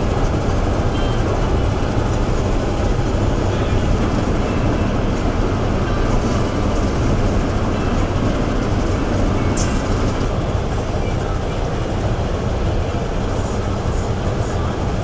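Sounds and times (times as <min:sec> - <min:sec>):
heavy machinery rumbling and rattling: 0:00.0 - 0:15.0.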